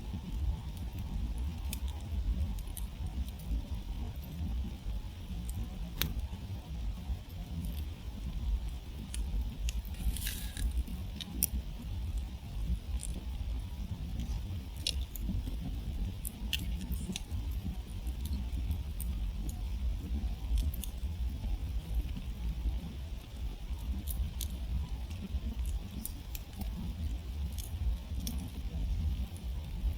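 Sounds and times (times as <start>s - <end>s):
campfire crackling and popping: 0.0s - 29.9s
low steady rumble: 0.0s - 29.9s.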